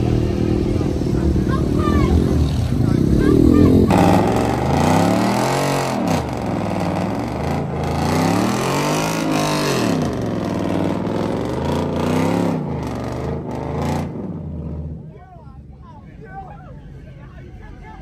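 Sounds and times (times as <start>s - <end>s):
car engine revving: 0.0s - 15.1s.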